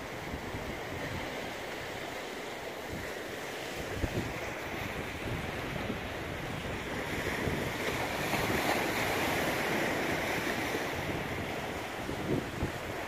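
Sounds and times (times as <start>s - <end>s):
wind buffeting microphone: 0.0s - 2.2s, 2.8s - 13.0s
sea waves washing against rocks: 0.0s - 13.0s.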